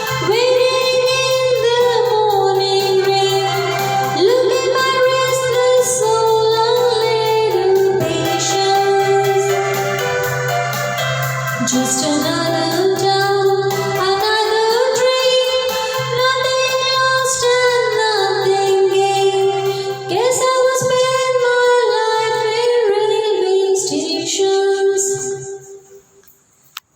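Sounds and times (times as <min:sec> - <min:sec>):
person singing long wordless notes: 0:00.0 - 0:25.9.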